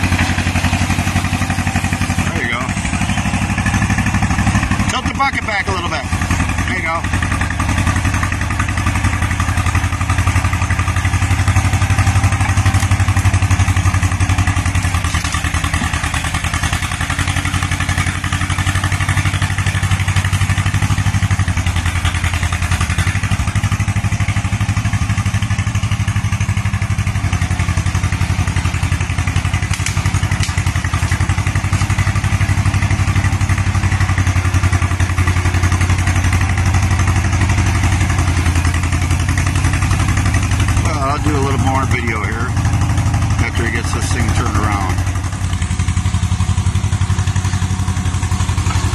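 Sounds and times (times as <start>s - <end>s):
bulldozer engine running: 0.0s - 48.9s.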